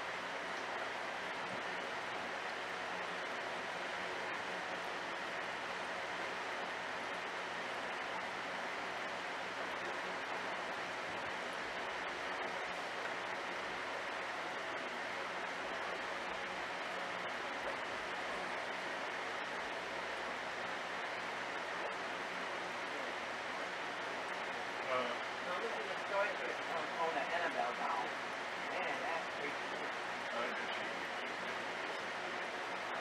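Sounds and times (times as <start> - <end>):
aquarium water and pump hiss: 0.0 - 33.0
faint low hum: 0.0 - 33.0.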